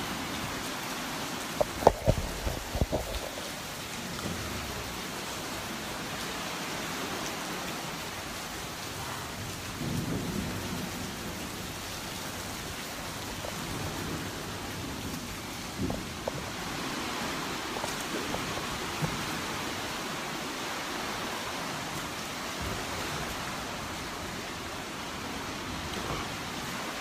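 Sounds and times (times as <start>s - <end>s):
sea waves washing over sand: 0.0s - 27.0s.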